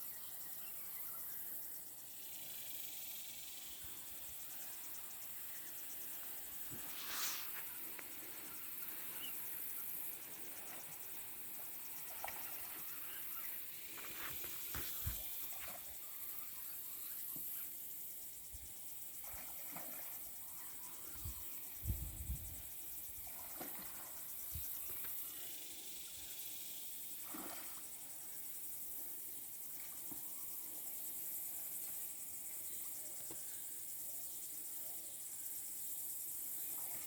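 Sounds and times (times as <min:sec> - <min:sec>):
high insect trill: 0:00.0 - 0:37.0.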